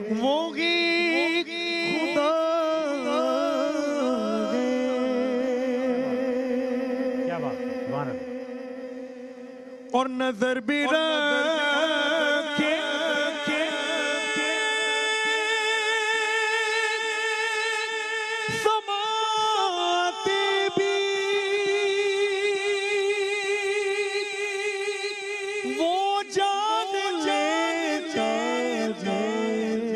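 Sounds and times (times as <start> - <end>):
man singing into a microphone: 0.0 - 29.9.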